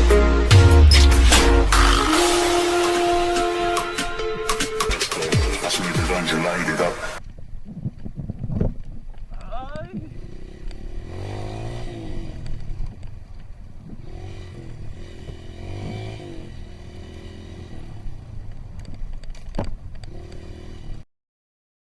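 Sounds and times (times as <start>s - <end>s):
motorbike engine revving: 0.0s - 7.3s, 8.3s - 21.0s
bike rattling over rough ground: 2.2s - 21.0s.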